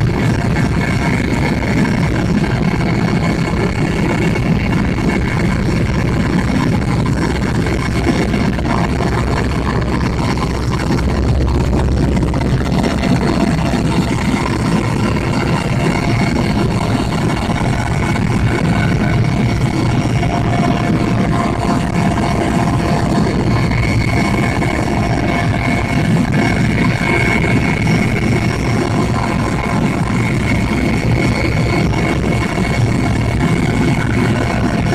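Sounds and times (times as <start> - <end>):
helicopter engine and rotor noise: 0.0 - 34.9
high whine: 0.0 - 34.9.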